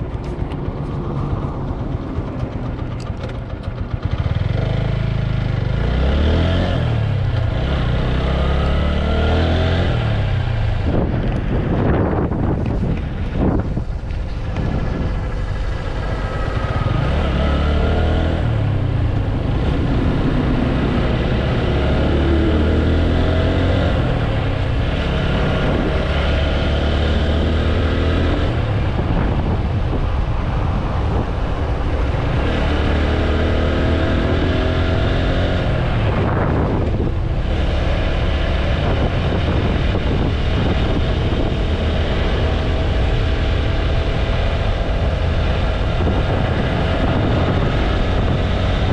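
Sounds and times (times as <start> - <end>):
motorcycle engine accelerating: 0.0 - 48.9
wind rumble on microphone: 0.0 - 48.9.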